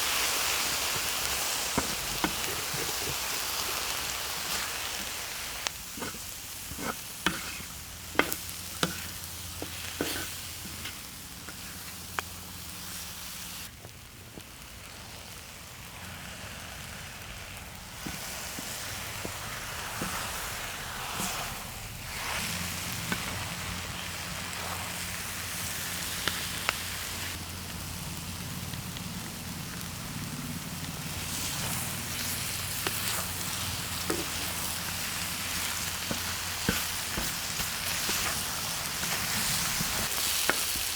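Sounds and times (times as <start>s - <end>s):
food sizzling on a griddle: 0.0s - 40.9s.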